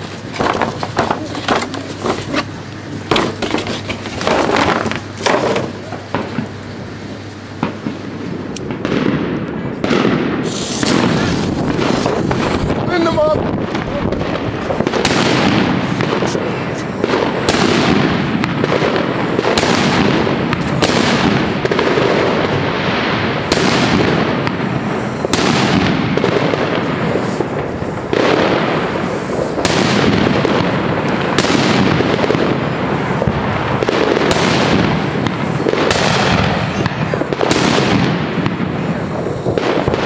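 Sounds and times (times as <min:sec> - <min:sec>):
firecrackers banging: 0:00.0 - 0:40.0.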